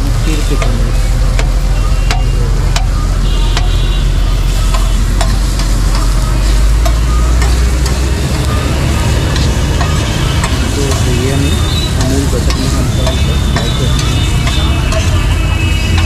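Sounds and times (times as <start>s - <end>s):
food sizzling on griddle: 0.0s - 16.0s.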